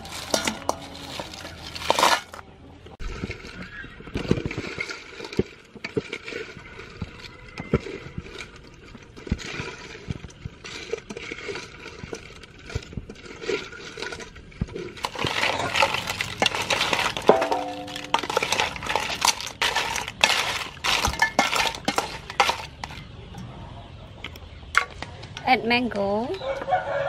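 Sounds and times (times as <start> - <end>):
crab shells clinking against metal bowl: 0.0 - 2.4, 4.2 - 23.4
wet sloshing: 0.0 - 23.1.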